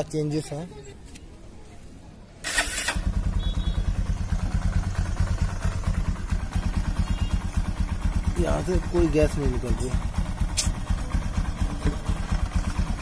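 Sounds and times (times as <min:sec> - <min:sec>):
motorcycle engine idling: 0:02.4 - 0:13.0.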